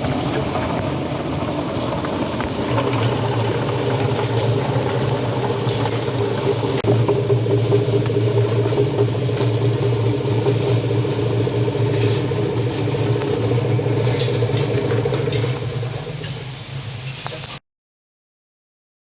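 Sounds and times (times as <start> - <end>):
machine motor hum: 0.0 - 17.6.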